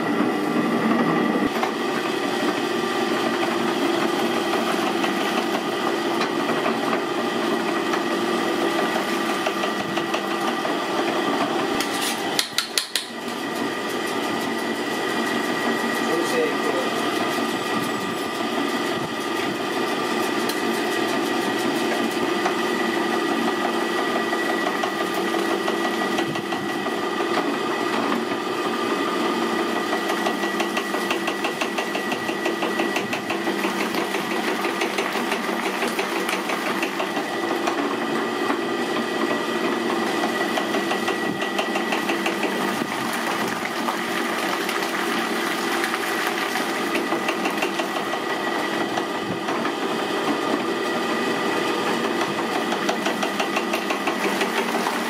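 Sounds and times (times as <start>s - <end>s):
electric mixer motor hum: 0.0s - 55.0s
mixer whine: 0.0s - 55.0s.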